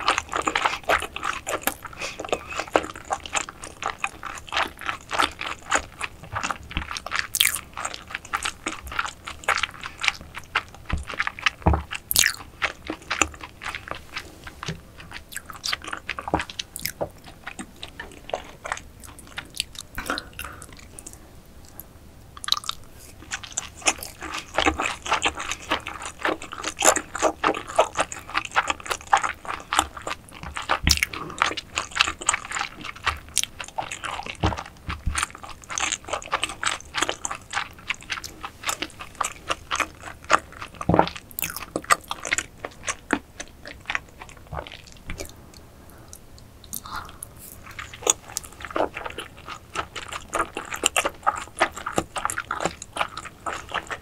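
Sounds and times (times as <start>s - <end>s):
wet chewing and smacking: 0.0s - 54.0s.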